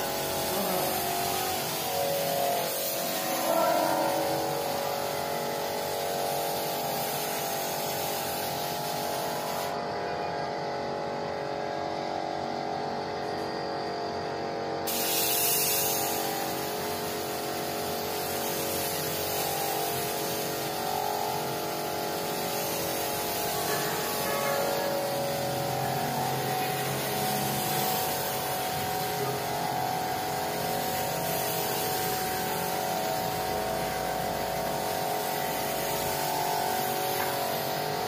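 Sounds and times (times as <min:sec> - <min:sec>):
spray gun hissing: 0:00.0 - 0:09.8, 0:14.9 - 0:38.0
steady hum: 0:00.0 - 0:38.0.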